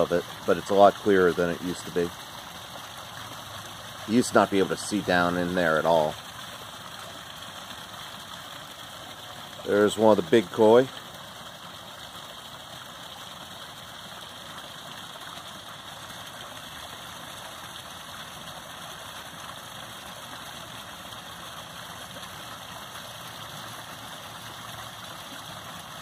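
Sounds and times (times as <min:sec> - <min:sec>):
waterfall splashing into pond: 0:00.0 - 0:26.0.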